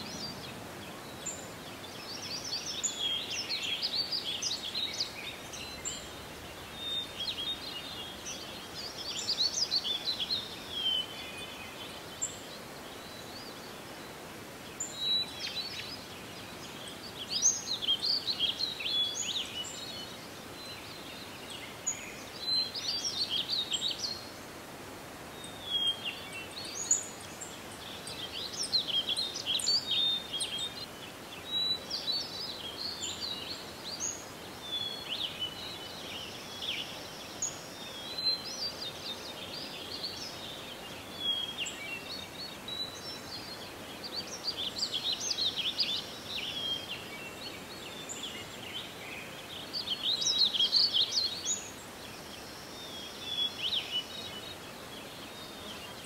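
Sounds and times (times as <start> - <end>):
faint steady hiss: 0.0 - 56.0
songbirds chirping: 0.0 - 56.0.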